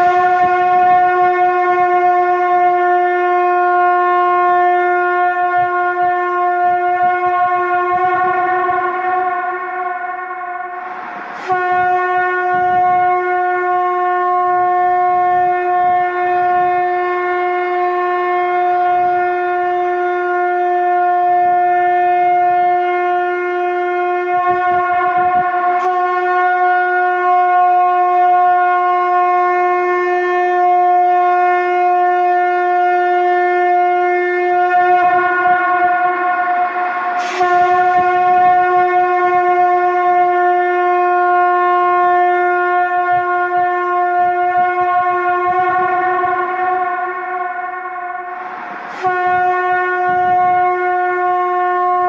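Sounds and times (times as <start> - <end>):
conch shell blasts: 0.0 - 52.0.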